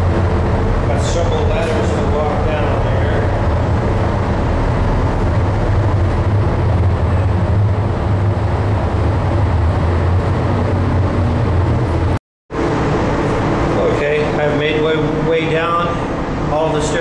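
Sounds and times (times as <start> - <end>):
ship machinery droning: 0.0 - 17.0.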